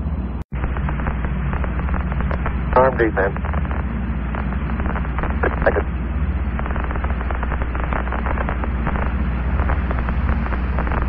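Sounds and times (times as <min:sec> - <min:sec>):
low hum: 0:00.0 - 0:11.0
radio static hiss and crackle: 0:00.5 - 0:11.0.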